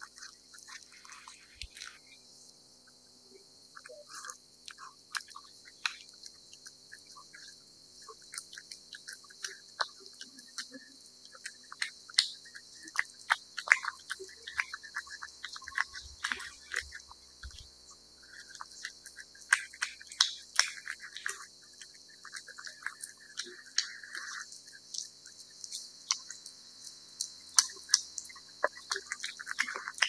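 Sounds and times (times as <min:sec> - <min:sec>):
cat eating wet food: 0:00.0 - 0:02.1, 0:03.8 - 0:30.0.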